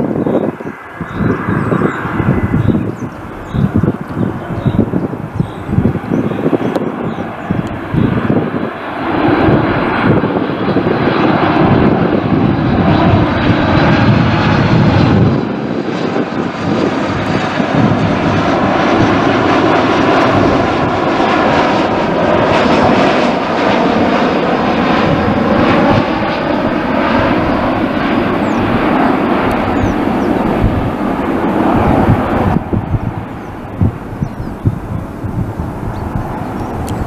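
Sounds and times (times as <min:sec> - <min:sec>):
jet engines passing overhead: 0:00.0 - 0:37.0.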